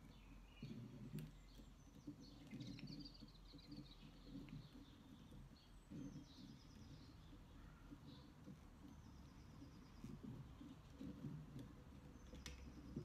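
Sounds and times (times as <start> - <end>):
small birds chirping and trilling: 0.0 - 13.0.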